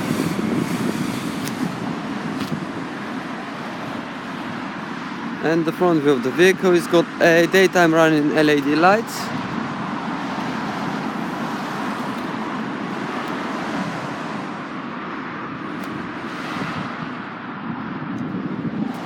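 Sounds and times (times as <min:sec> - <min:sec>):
road traffic hiss and rumble: 0:00.0 - 0:19.0.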